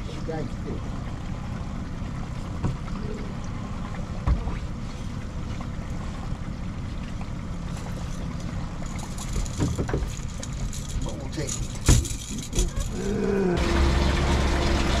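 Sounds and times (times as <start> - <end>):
boat motor rumble: 0.0 - 15.0.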